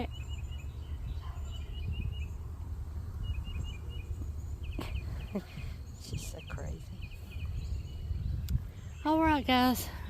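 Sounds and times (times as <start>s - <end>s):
bird chirping: 0.0s - 10.0s
steady low rumble: 0.1s - 10.0s.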